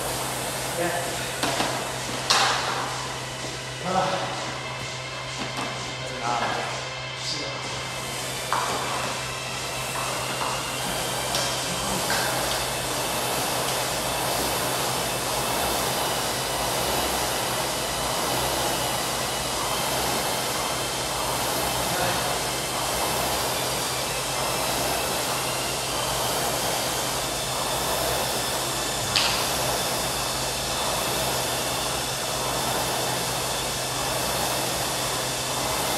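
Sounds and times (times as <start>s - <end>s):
rowing machine flywheel whooshing: 0.0s - 35.9s.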